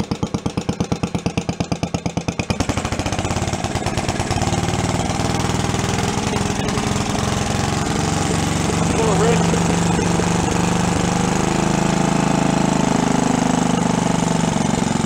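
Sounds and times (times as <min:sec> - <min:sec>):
single-cylinder engine idling and revving: 0:00.0 - 0:15.0.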